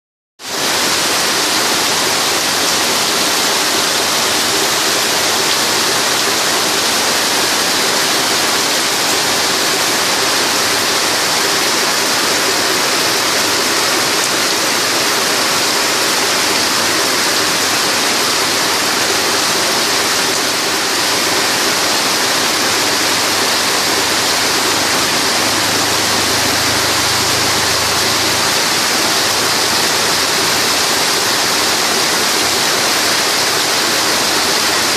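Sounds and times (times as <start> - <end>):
heavy rain pouring: 0.5 - 34.9.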